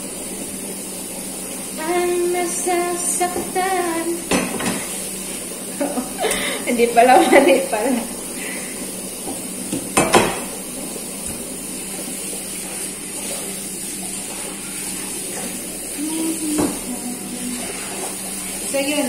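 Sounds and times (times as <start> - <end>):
kitchen tap running into sink: 0.0 - 19.0.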